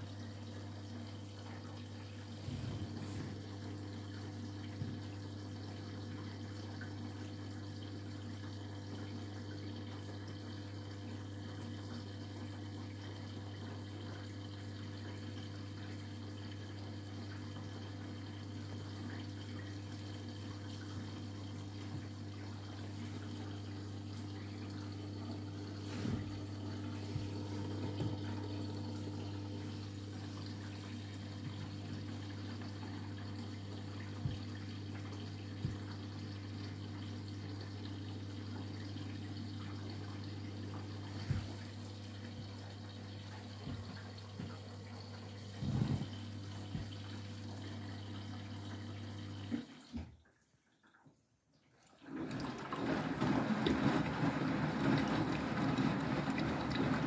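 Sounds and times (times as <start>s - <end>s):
washing machine low hum: 0.0s - 50.7s, 51.8s - 57.0s
water running into washing machine: 0.0s - 57.0s.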